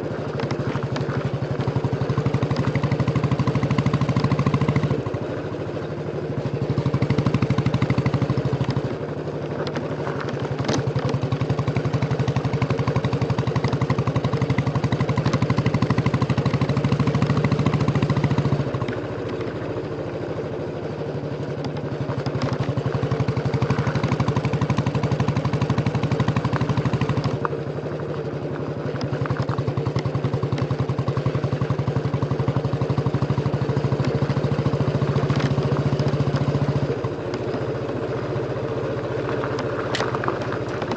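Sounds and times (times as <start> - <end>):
motorcycle engine thumping: 0.0 - 40.9.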